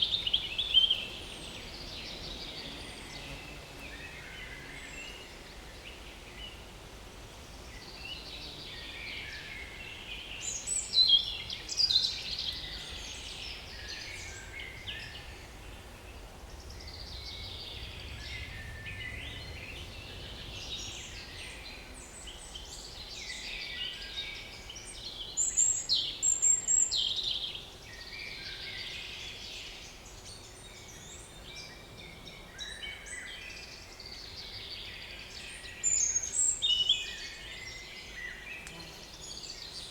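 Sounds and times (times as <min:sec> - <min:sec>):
small songbirds singing: 0:00.0 - 0:06.7, 0:07.3 - 0:39.9.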